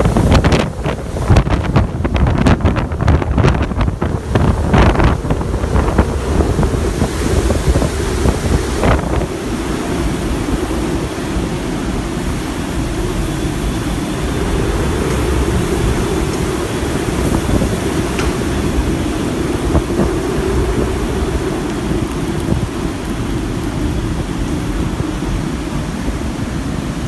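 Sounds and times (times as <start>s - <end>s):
strong wind on microphone: 0.0s - 27.0s.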